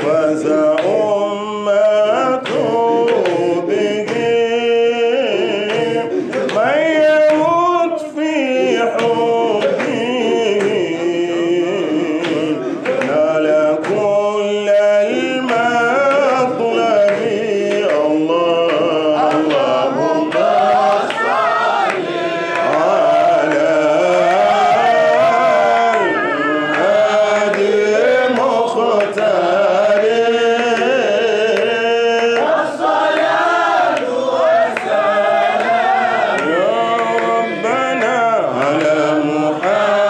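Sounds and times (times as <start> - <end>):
man chanting into microphone: 0.0 - 21.2, 22.5 - 32.8, 36.3 - 40.0
percussion beating: 0.0 - 40.0.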